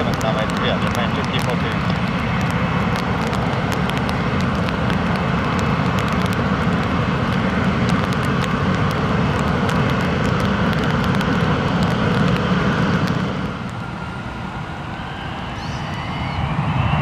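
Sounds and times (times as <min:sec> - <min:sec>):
jet engines at taxi power: 0:00.0 - 0:17.0.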